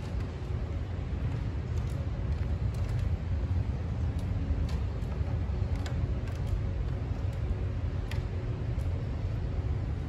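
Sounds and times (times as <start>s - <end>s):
low ambient rumble: 0.0s - 10.0s.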